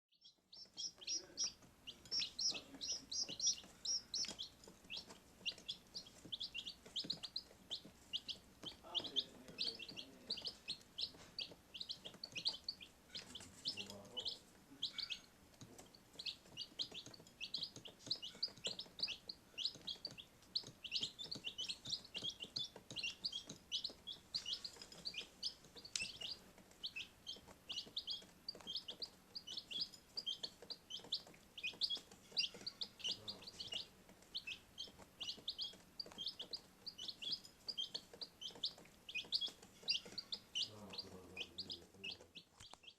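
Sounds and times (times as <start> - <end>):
baby chicks peeping: 0.1 - 42.9.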